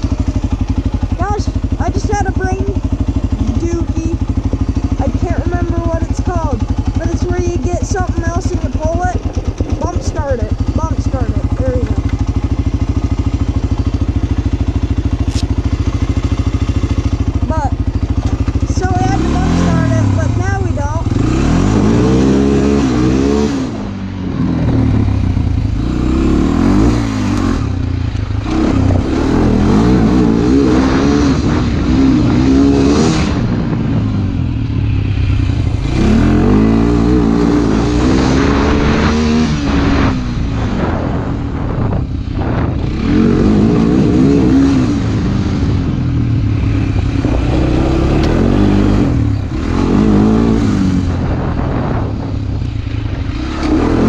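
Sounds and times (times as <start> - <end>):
motorcycle engine accelerating: 0.0 - 54.0
wind noise on microphone: 5.0 - 25.9, 26.6 - 54.0.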